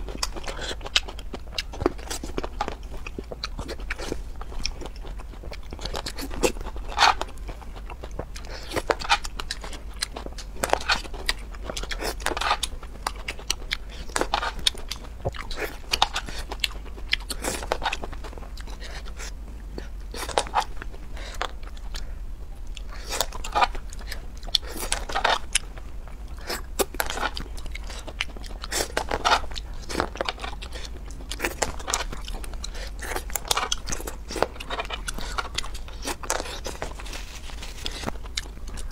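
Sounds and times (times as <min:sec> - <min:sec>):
crunchy chewing: 0:00.0 - 0:38.9.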